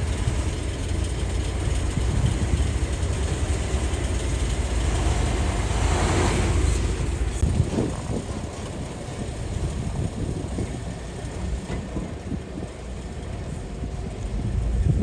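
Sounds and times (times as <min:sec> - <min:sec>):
excavator diesel engine rumble: 0:00.0 - 0:15.0.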